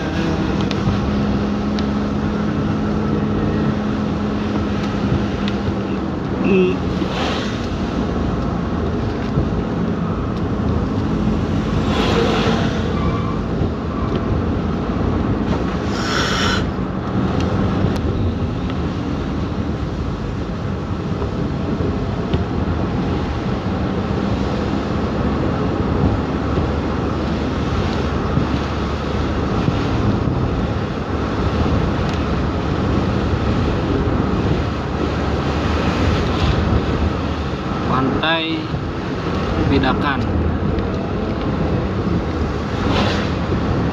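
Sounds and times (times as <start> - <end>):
car engine and tyres droning: 0.0 - 43.9
hissing swishes of wet road: 0.1 - 13.6, 14.6 - 37.9, 38.5 - 43.9.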